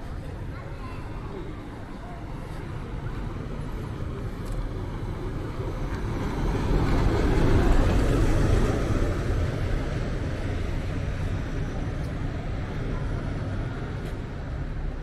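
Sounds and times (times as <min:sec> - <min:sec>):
bus driving past: 0:00.0 - 0:15.0
street noise: 0:00.0 - 0:15.0.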